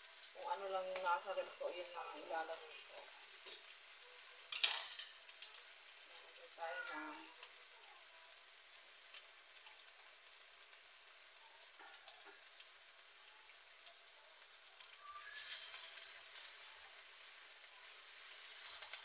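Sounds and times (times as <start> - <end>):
chicken sizzling in a wok: 0.0 - 19.0
spatula stirring in a pan: 0.0 - 19.0.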